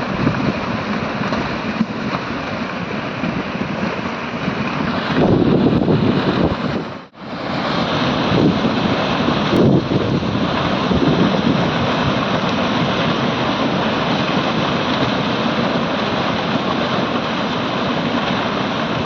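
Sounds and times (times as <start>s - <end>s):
debris flood rushing: 0.0s - 19.0s.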